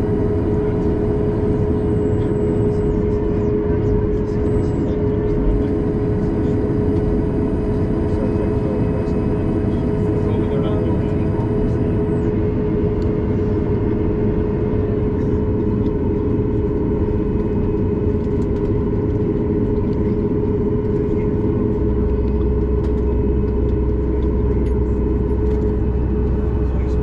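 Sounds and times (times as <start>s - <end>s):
aircraft cabin engine rumble: 0.0s - 27.0s
deep low drone: 0.0s - 27.0s.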